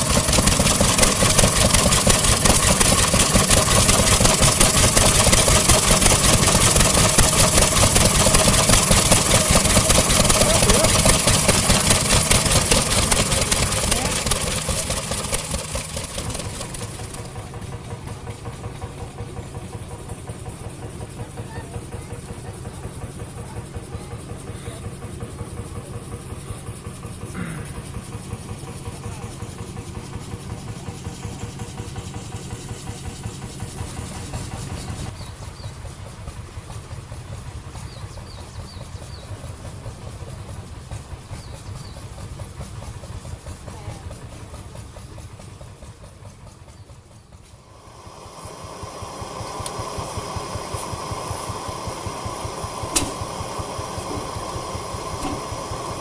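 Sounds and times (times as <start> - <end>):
vintage engine idling: 0.0 - 56.0.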